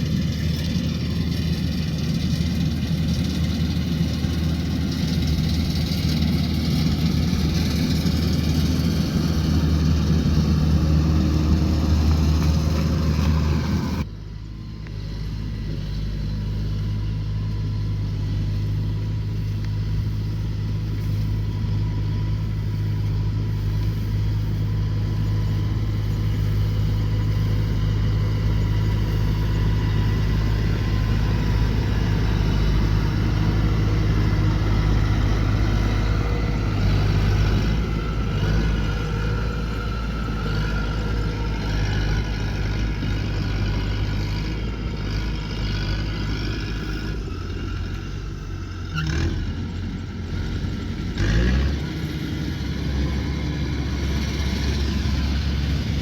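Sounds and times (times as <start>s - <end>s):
harvester engine running: 0.0s - 56.0s.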